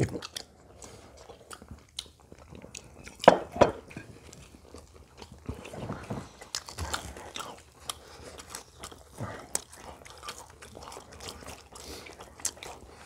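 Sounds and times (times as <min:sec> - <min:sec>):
people chewing fried food: 0:00.0 - 0:13.0.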